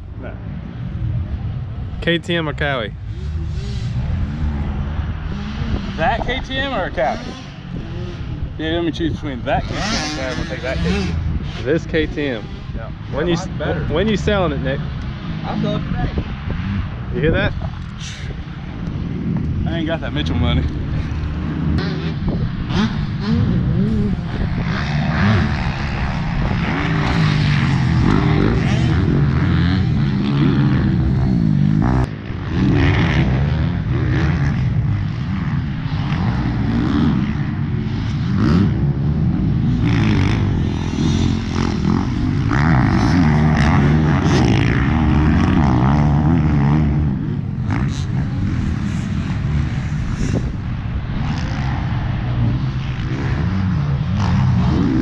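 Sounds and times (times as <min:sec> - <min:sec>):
motocross bike engine revving: 0:02.0 - 0:18.4, 0:19.1 - 0:55.0.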